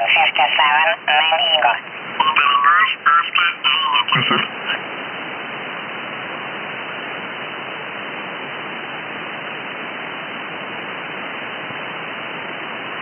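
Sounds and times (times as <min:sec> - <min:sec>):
shortwave radio hiss: 0:00.0 - 0:13.0.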